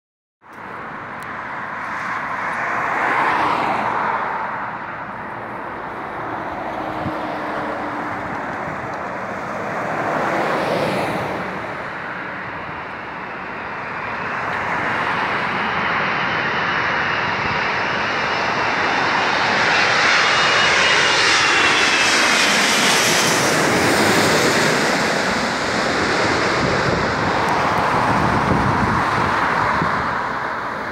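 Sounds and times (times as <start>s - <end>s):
road traffic passing: 0.4s - 30.9s
high jet engine whine: 0.5s - 30.9s
jet engines roaring: 0.5s - 30.9s.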